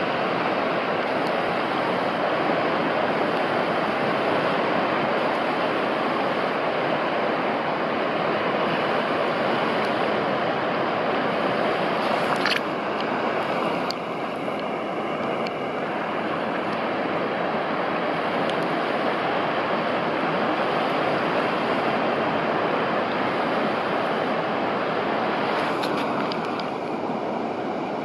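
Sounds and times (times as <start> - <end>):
sea current rushing over rocks: 0.0 - 28.0.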